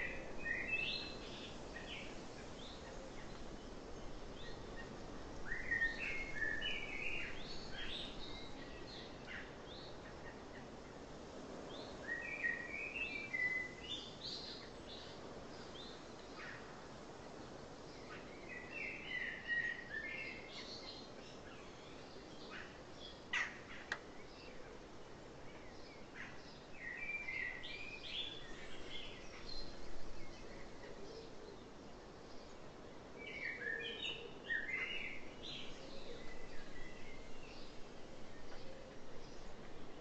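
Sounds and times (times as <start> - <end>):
background hiss: 0.0 - 40.0.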